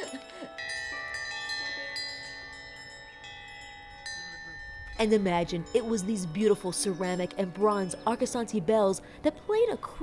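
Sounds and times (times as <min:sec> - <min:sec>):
windbells ringing: 0:00.0 - 0:10.0.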